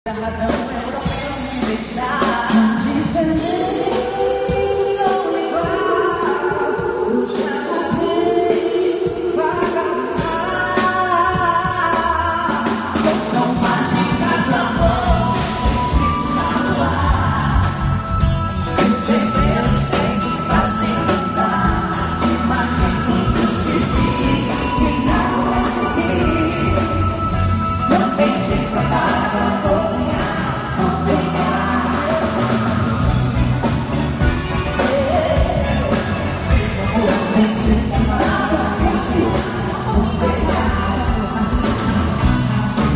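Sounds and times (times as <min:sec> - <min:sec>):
live pop band with singers: 0:00.0 - 0:42.9.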